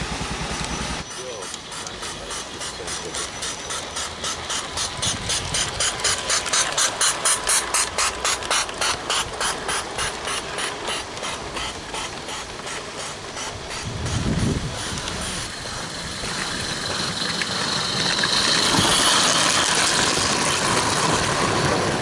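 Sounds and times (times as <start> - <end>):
model steam locomotive chuffing: 0.0 - 22.0.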